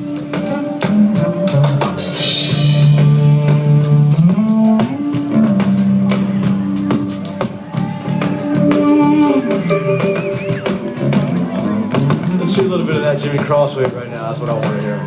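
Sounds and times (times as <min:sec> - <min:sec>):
low notes sliding up: 0:00.0 - 0:13.1
rock band playing: 0:00.0 - 0:15.0.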